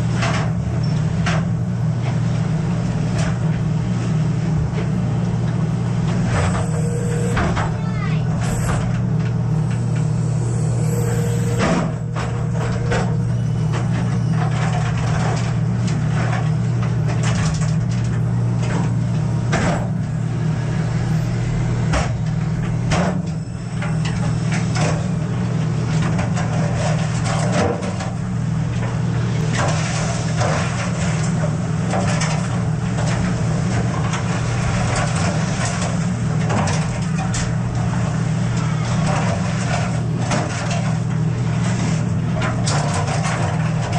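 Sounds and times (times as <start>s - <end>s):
boat engine drone: 1.5s - 42.4s.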